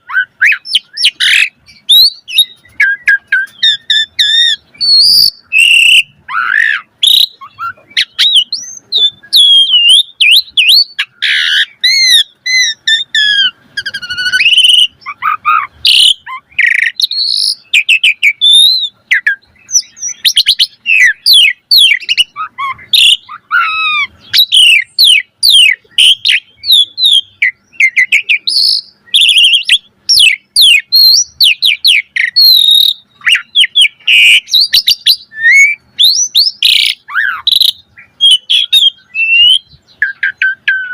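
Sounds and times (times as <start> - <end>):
starling singing: 0.0 - 40.9.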